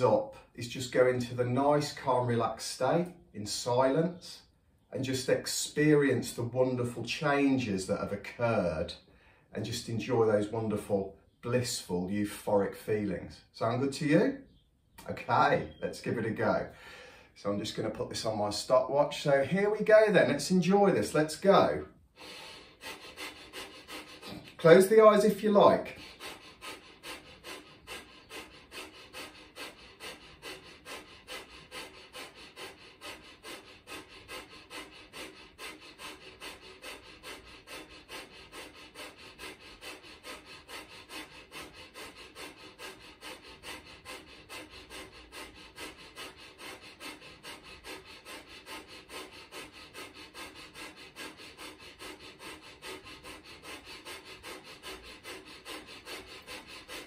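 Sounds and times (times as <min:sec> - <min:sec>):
rapid forceful nasal breathing: 0:05.1 - 0:09.9, 0:16.1 - 0:57.0.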